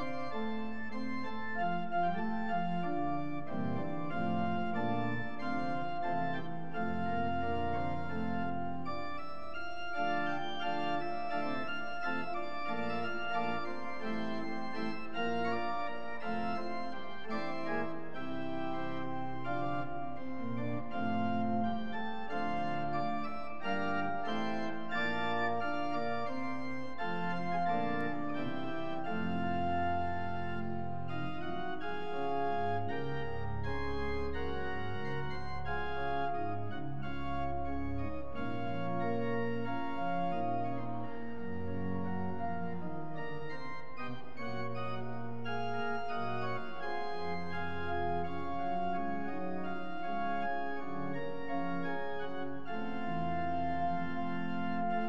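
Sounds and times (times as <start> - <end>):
church organ chords: 0.0 - 55.0
deep organ pedal bass notes: 0.0 - 55.0.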